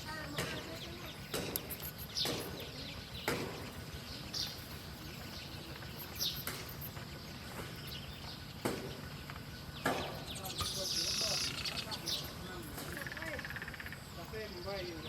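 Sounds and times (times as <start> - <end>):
high bird chirps: 0.0 - 15.0
steady background hiss: 0.0 - 15.0.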